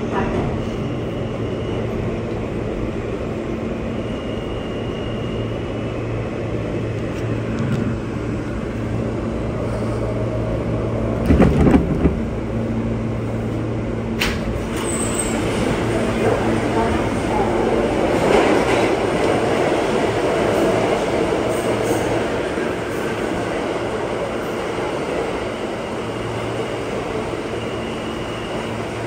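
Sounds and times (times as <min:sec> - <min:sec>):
subway train rumbling in tunnel: 0:00.0 - 0:29.0.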